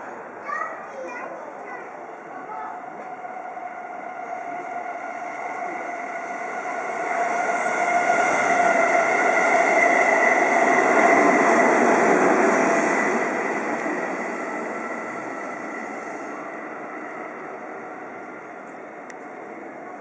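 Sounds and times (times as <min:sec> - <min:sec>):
train high whine: 0:00.0 - 0:20.0
train wheels rumbling on rails: 0:00.0 - 0:20.0.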